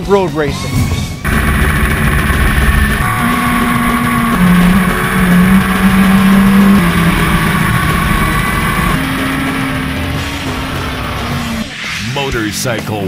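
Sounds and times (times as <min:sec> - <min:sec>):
motorcycle engines racing at high revs: 0:01.2 - 0:11.8.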